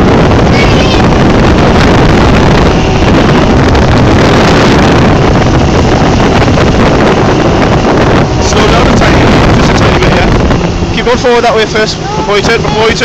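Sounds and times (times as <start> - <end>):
speedboat engine running: 0.0 - 13.0
wind buffeting microphone: 0.0 - 13.0.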